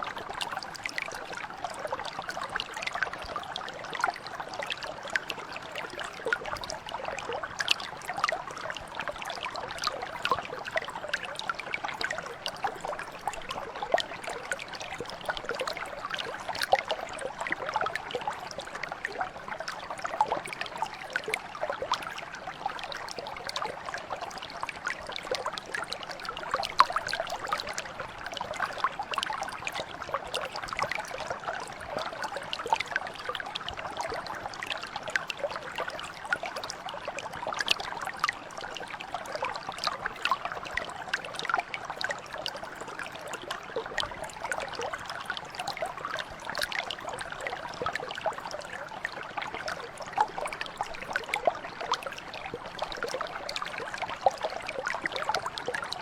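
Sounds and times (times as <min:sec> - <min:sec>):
brook flowing: 0:00.0 - 0:56.0
water splashes and trickles: 0:00.0 - 0:56.0.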